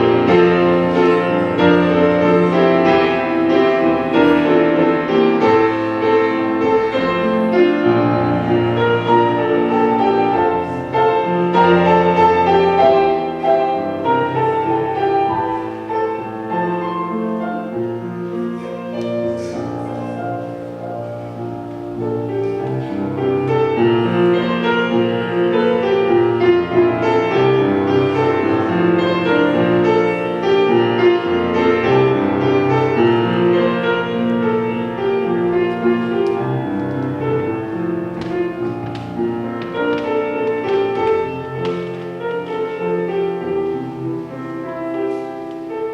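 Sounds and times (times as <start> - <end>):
slow piano music: 0.0 - 45.9.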